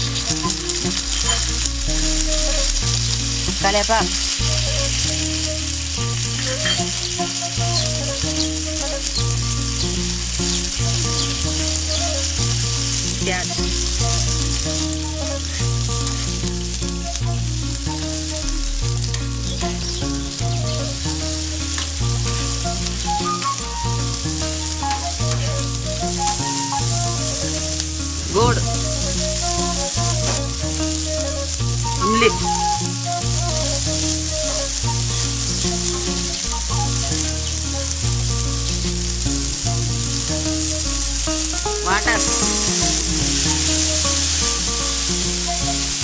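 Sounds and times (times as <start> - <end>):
soft background music: 0.0 - 46.0
vegetables sizzling in hot oil: 0.0 - 46.0.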